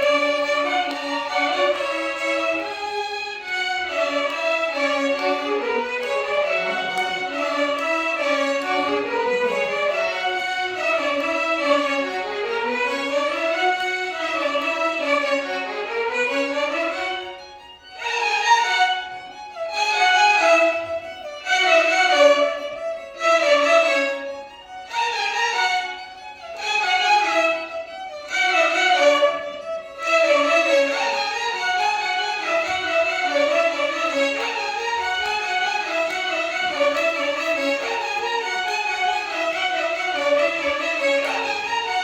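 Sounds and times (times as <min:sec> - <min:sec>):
violin orchestra playing melody: 0:00.0 - 0:42.0.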